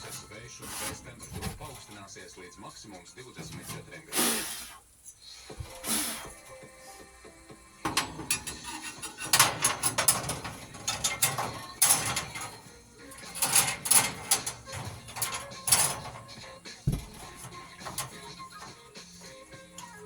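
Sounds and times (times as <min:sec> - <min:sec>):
metallic clicks and clanks: 0:00.0 - 0:04.1, 0:07.8 - 0:20.0.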